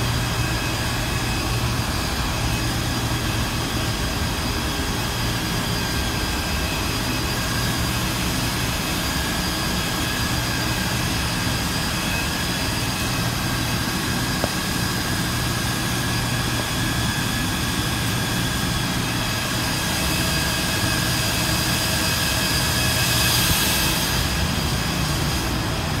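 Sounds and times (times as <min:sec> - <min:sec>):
server fans whirring: 0:00.0 - 0:26.0.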